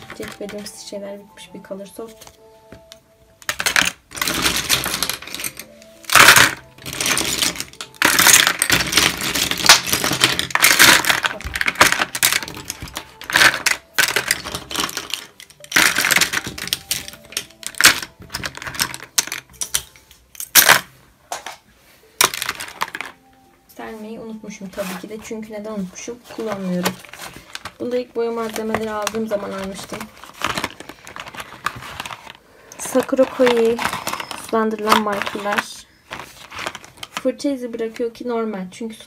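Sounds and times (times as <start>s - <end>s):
pens clattering in plastic box: 0.0s - 0.9s, 3.4s - 21.6s, 22.2s - 23.2s, 24.7s - 38.2s.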